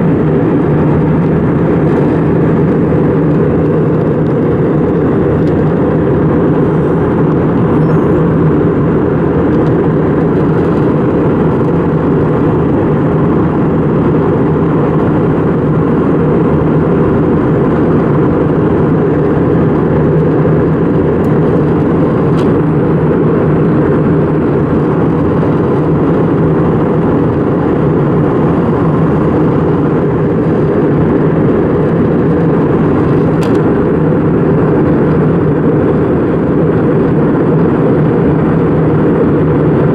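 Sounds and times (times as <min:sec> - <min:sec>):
airplane cabin engine and airflow rush: 0:00.0 - 0:39.9.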